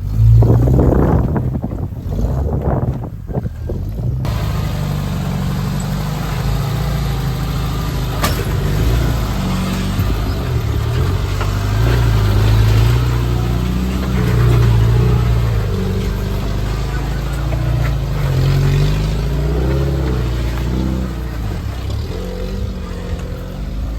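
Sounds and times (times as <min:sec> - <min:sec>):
off-road vehicle engine: 0:00.0 - 0:23.9.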